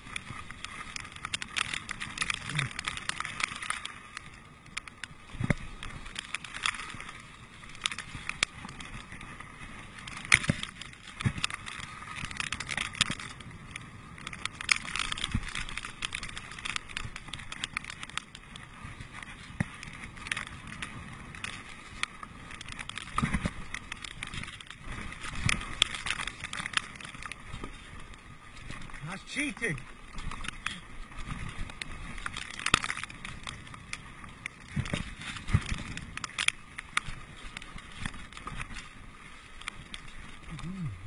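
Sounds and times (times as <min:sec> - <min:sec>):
bike clicks and rattles: 0:00.0 - 0:40.9
bike tyre noise on rough trail: 0:00.0 - 0:41.0.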